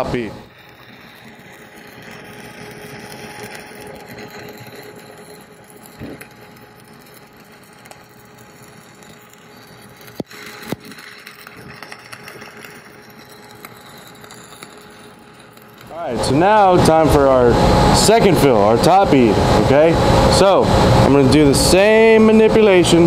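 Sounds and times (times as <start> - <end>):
welding arc crackling: 0.0 - 23.0.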